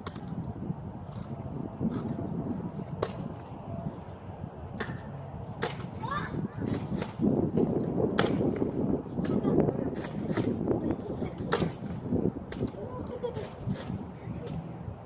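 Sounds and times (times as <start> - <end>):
rough outdoor noise: 0.0 - 15.0.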